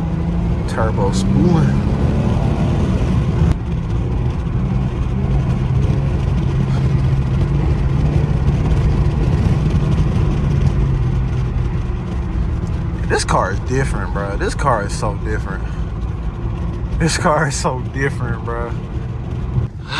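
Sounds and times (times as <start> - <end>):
car engine droning: 0.0 - 19.9.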